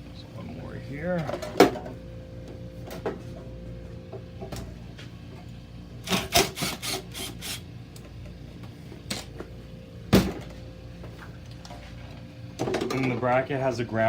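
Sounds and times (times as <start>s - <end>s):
low hum: 0.0s - 6.3s, 7.1s - 13.0s.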